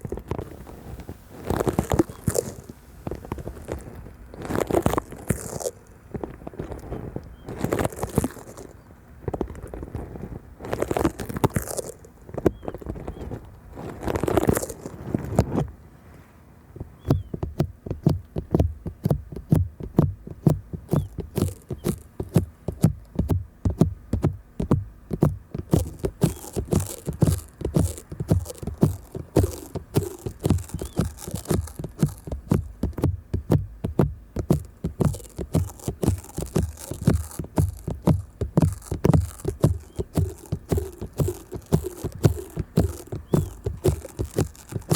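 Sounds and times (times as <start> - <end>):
fingers tapping stickers on microphone: 0.0 - 10.1, 16.8 - 44.9
fingers rustling on microphone: 0.0 - 44.9.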